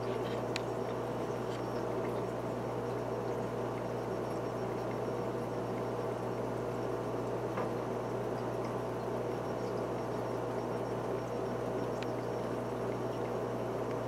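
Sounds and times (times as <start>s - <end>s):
aquarium filter bubbling water: 0.0s - 14.0s
low electrical hum: 0.0s - 14.0s.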